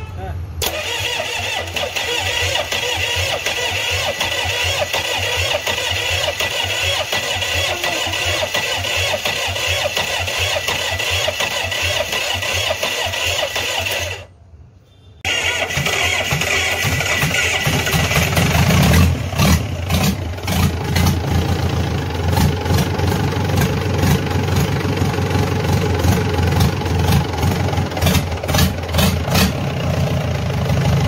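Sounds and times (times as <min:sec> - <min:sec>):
diesel engine chugging: 0:00.6 - 0:14.3, 0:15.3 - 0:31.0.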